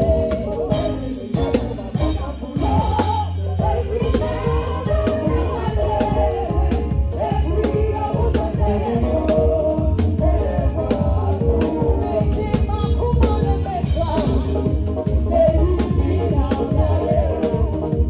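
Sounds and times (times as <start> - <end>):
drum kit playing: 0.0 - 18.0
electric bass: 0.0 - 18.0
people singing: 0.0 - 18.0.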